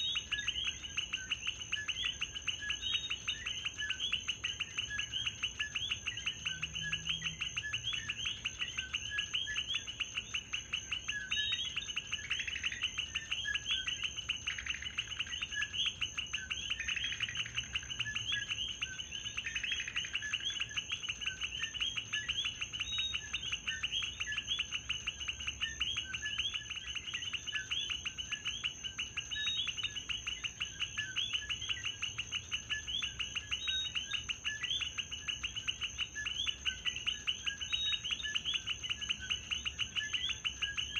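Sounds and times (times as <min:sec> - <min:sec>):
frogs chirping: 0:00.0 - 0:40.9.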